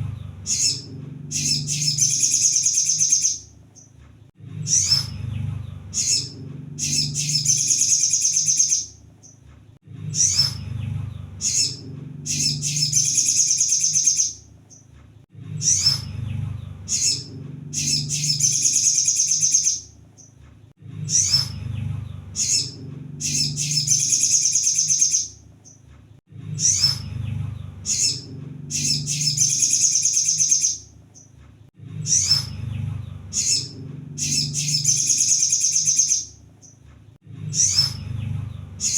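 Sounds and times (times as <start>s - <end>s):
sunbird chirping and trilling: 0.0s - 4.0s, 4.6s - 9.4s, 10.1s - 14.9s, 15.6s - 20.4s, 21.0s - 25.8s, 26.5s - 31.4s, 32.0s - 36.8s, 37.5s - 38.9s.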